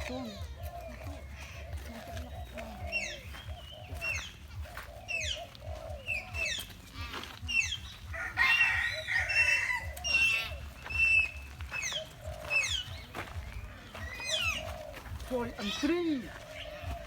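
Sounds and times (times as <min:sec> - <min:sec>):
bird chattering calls: 0:00.0 - 0:17.0.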